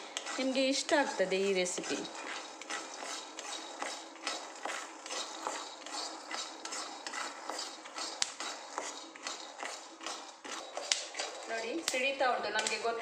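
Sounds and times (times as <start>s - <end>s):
peanut skins crackling: 0.0s - 13.0s
spoon scraping a pan: 0.0s - 13.0s.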